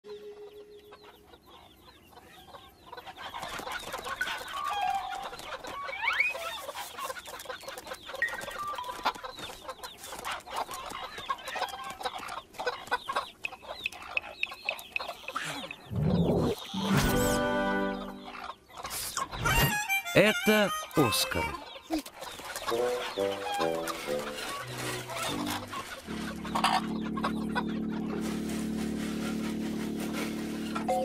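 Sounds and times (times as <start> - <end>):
cartoon chickens clucking and squawking: 0.8 - 28.8.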